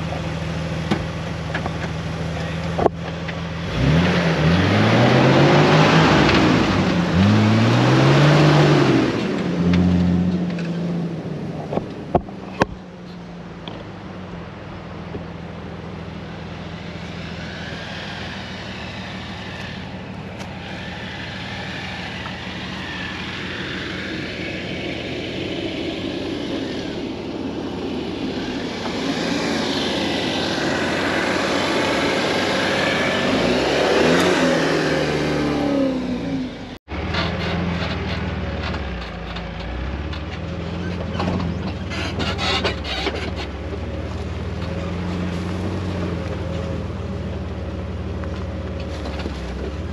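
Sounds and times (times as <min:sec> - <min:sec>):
road and wind noise: 0:00.0 - 0:49.9
car engine running: 0:08.8 - 0:49.9.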